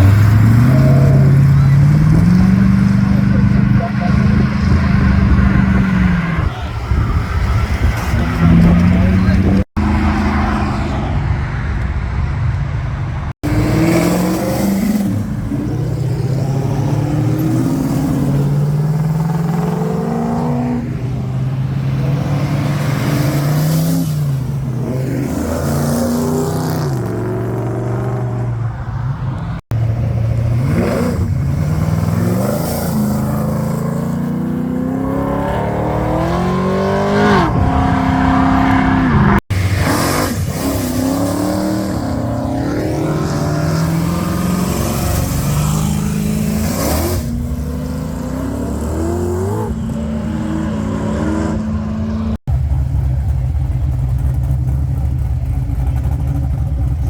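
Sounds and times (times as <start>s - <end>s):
car engines accelerating: 0.0s - 57.0s.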